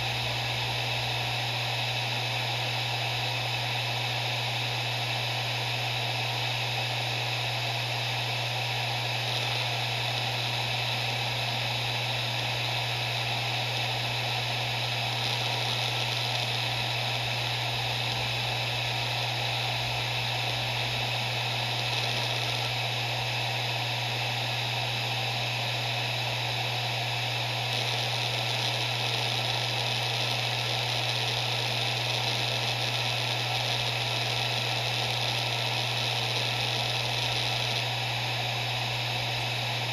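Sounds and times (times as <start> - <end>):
hard drive whirring: 0.0 - 39.9.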